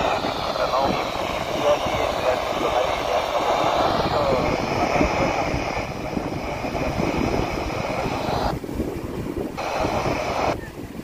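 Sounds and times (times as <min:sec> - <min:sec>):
sea surf through radio speaker: 0:00.0 - 0:11.0
wind rumbling on microphone: 0:00.0 - 0:11.0.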